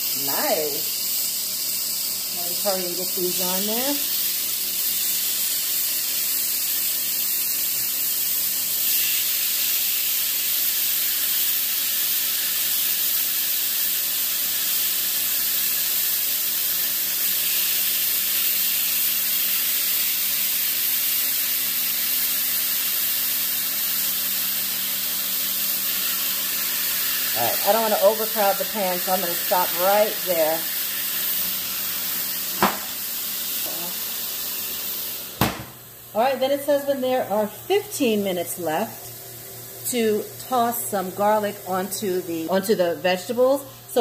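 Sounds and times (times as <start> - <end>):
appliance fan hum: 0.0 - 44.0
chicken sizzling on grill: 0.0 - 44.0.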